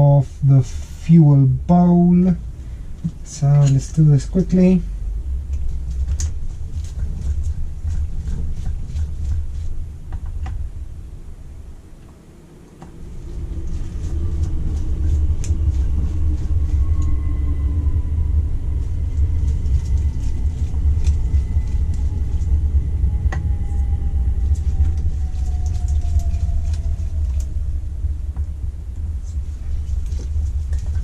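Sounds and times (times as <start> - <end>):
low rumble with falling whine: 0.0 - 31.0.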